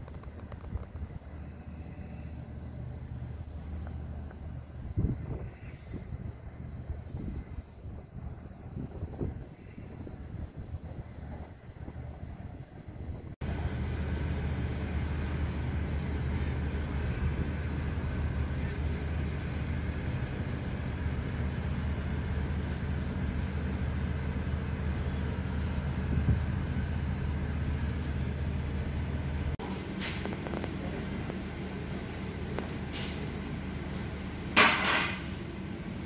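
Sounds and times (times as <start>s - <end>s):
ship engines humming: 0.0s - 36.0s.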